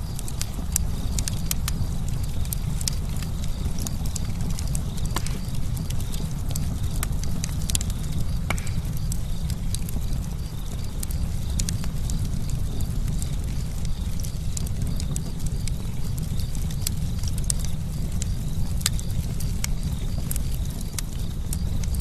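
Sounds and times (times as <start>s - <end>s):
burning wood crackling and popping: 0.0s - 22.0s
campfire rumble: 0.0s - 22.0s.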